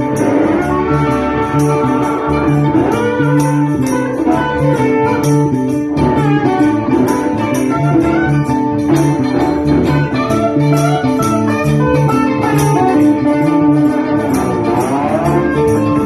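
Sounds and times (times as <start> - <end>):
bass guitar: 0.0 - 16.0
electric guitars: 0.0 - 16.0.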